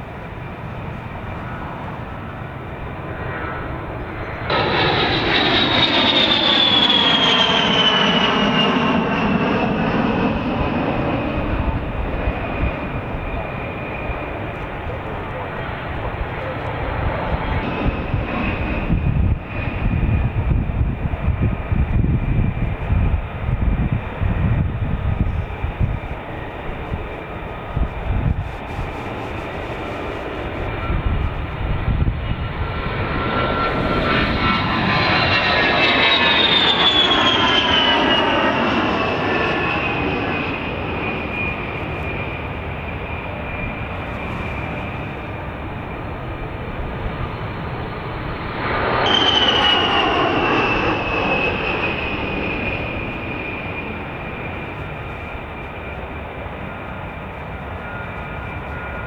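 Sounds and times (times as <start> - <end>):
jet aircraft passing: 0.0 - 59.0.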